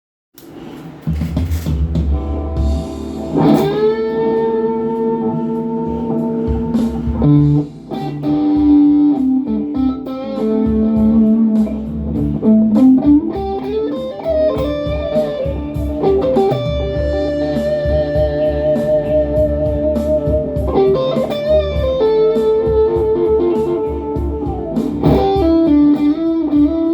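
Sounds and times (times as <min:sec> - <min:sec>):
electric guitar bluesy lead: 0:01.8 - 0:26.9.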